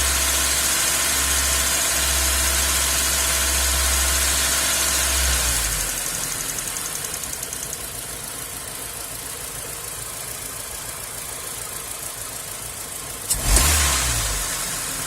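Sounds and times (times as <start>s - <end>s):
car engine rough idle: 0.0s - 15.0s.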